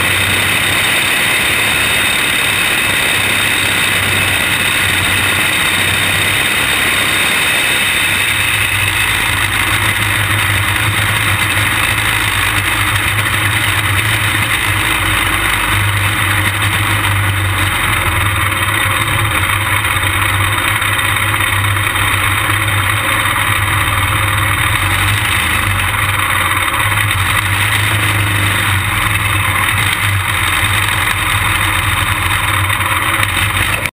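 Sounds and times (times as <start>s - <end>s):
kart engine running: 0.0s - 34.0s.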